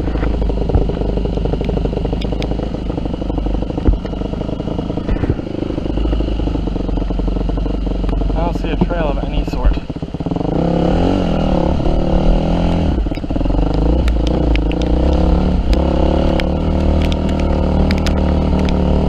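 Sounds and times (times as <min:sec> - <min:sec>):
sharp ticks and clatter: 0:00.0 - 0:10.5, 0:13.0 - 0:19.0
dirt bike engine revving: 0:00.0 - 0:19.0.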